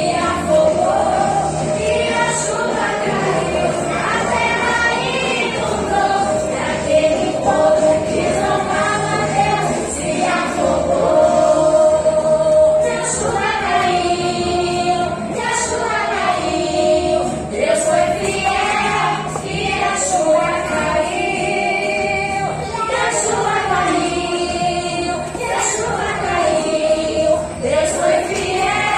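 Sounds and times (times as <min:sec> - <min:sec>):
group singing gospel music: 0:00.0 - 0:28.9.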